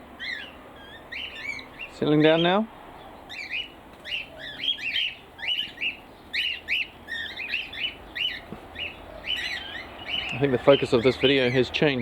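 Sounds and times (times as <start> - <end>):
cockatiels chirping: 0.2 - 2.6, 3.3 - 12.0.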